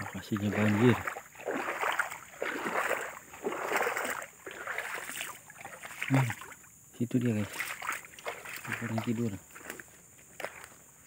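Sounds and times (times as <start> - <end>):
footsteps wading through water: 0.0 - 11.0.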